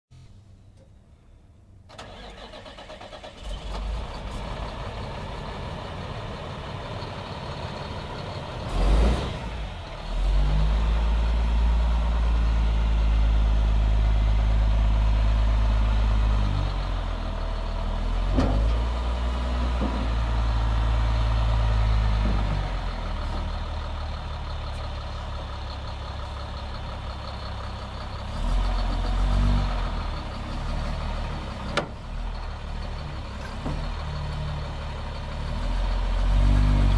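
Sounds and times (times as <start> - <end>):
diesel truck engine revving: 1.9 - 36.9.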